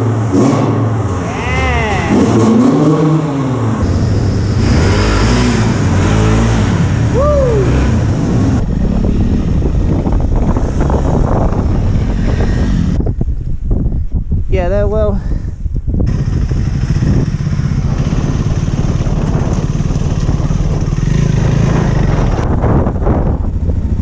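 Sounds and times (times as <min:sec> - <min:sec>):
dirt bike engine revving: 0:00.0 - 0:13.0, 0:16.1 - 0:23.2
motorcycle engines running outdoors: 0:00.0 - 0:14.0, 0:15.7 - 0:24.0.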